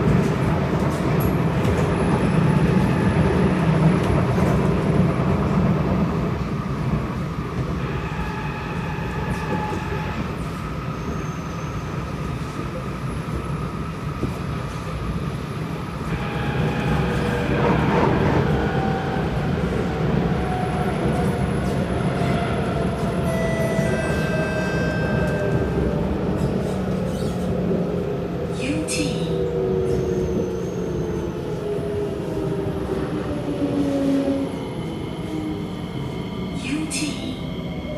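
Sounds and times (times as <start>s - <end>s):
train low rumble: 0.0s - 37.9s.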